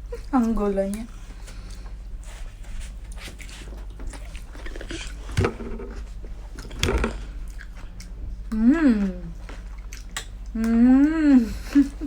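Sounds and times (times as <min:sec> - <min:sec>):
steady low hum: 0:00.0 - 0:12.0
chewing and mouth clicks: 0:00.1 - 0:12.0.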